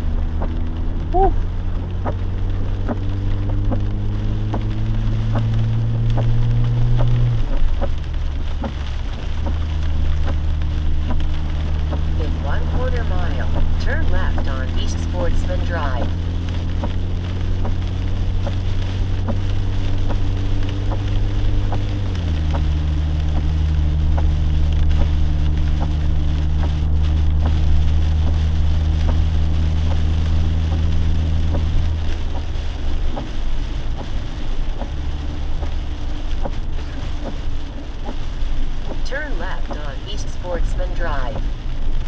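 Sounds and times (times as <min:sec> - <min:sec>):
engine low hum: 0:00.0 - 0:42.0
rain pattering on a vehicle: 0:00.0 - 0:42.0.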